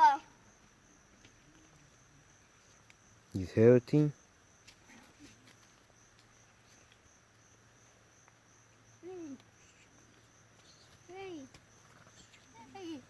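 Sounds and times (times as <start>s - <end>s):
insect chirping trill: 0.0s - 13.0s.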